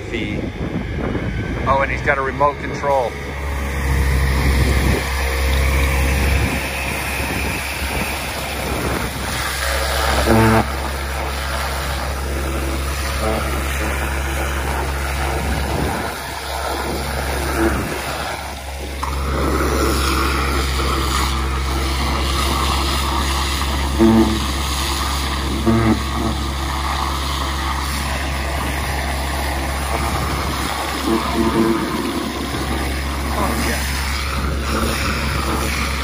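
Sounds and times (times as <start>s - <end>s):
pressure washer rushing: 0.0s - 36.0s
vacuum excavator engine drone: 0.0s - 36.0s.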